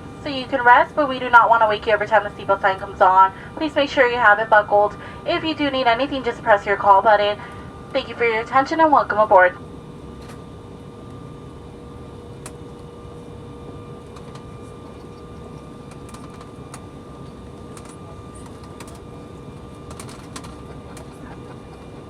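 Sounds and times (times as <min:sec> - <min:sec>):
constant mid-pitched tone: 0:00.0 - 0:22.0
jet cabin hum: 0:00.0 - 0:22.0.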